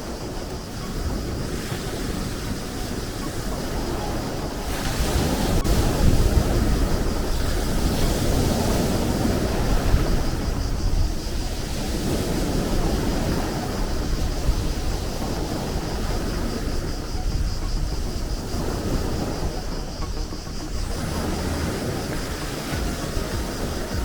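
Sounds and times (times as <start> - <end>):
sea waves breaking: 0.0 - 24.0
wind rumbling on microphone: 0.0 - 24.0.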